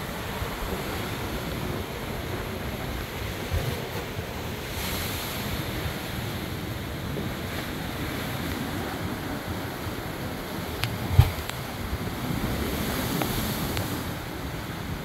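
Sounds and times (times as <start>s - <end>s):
surf breaking on cliffs: 0.0s - 15.0s
wind buffeting microphone: 0.0s - 15.0s.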